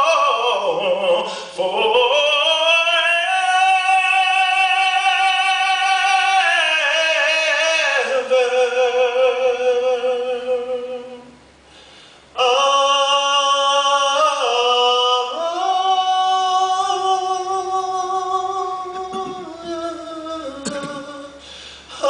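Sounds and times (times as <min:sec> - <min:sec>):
person singing with vibrato: 0:00.0 - 0:11.6, 0:12.2 - 0:22.0.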